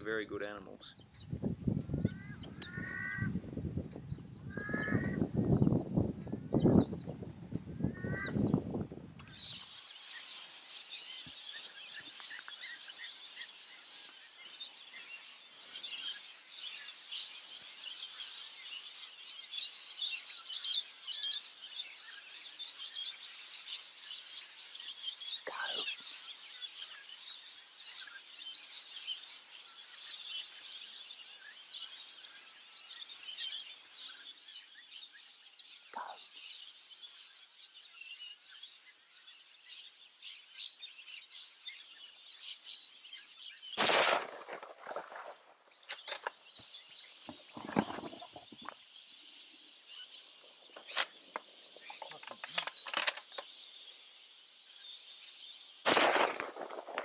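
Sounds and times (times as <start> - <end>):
birds chirping in chorus: 0.0 - 57.0.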